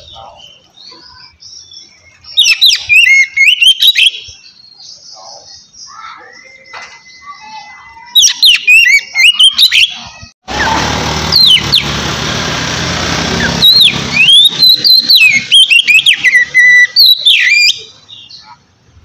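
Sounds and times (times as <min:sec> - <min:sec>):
bird singing whistled phrases: 0:00.0 - 0:10.2, 0:13.4 - 0:18.5.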